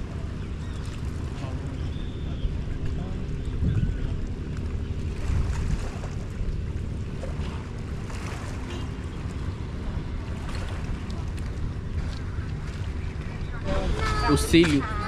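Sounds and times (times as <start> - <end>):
wind buffeting microphone: 2.2 - 15.0.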